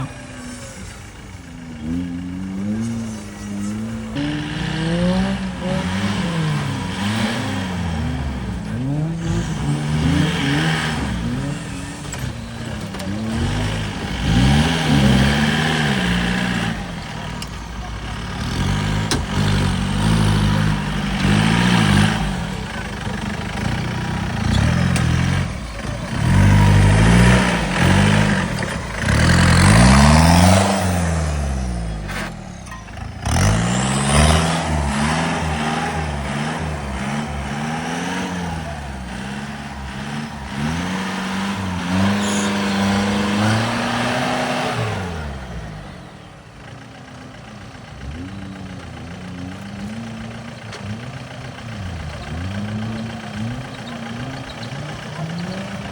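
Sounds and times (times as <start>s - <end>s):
engine revving hard: 1.8s - 46.4s, 47.8s - 55.9s.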